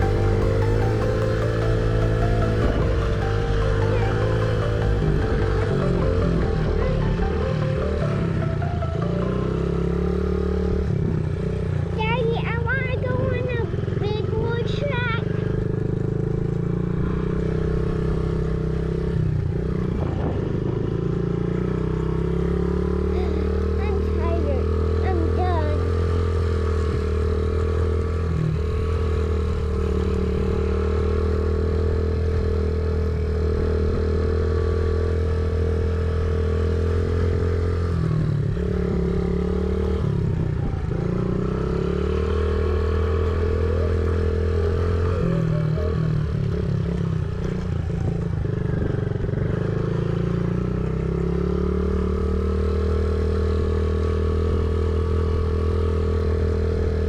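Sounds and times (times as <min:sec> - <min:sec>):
mini dirt bike engine running: 0:00.0 - 0:57.0.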